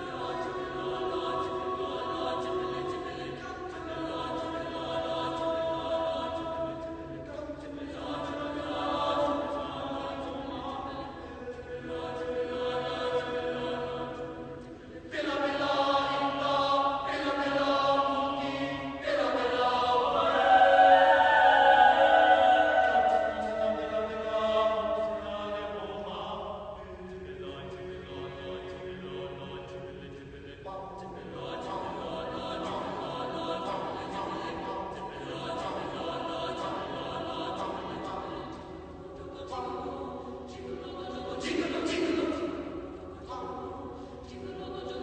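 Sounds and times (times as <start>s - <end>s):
choir singing sustained chords: 0.0s - 45.0s.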